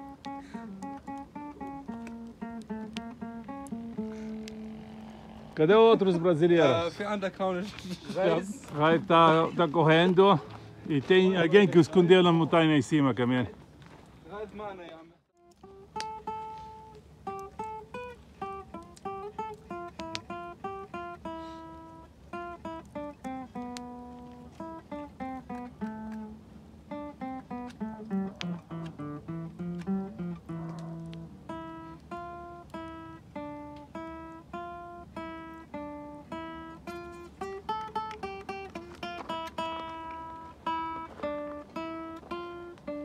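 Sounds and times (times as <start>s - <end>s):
acoustic guitar picking melody: 0.0s - 12.5s, 15.4s - 43.0s.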